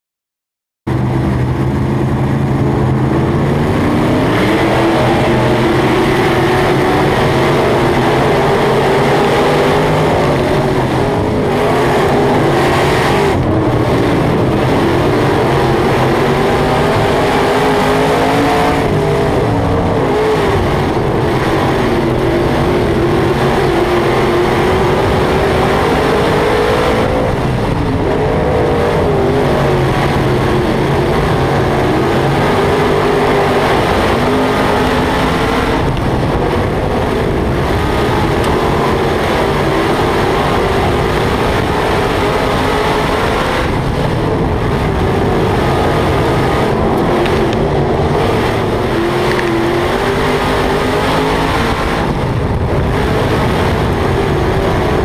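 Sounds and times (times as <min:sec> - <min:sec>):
race car engine: 0:00.9 - 0:55.0.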